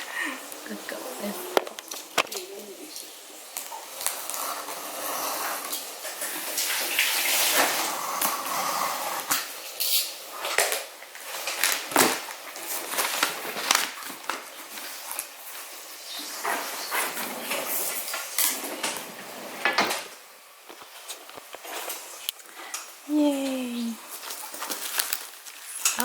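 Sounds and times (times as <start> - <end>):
paper and plastic rustling: 0.0 - 26.0.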